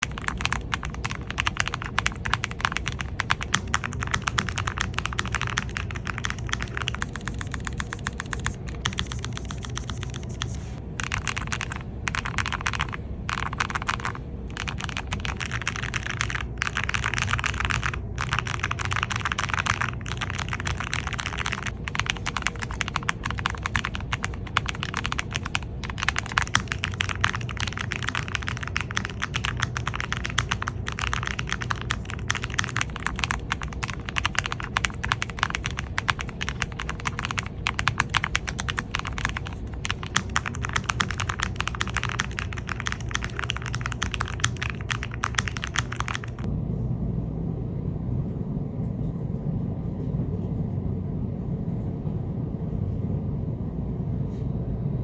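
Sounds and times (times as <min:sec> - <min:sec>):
mechanical keyboard typing: 0:00.0 - 0:46.5.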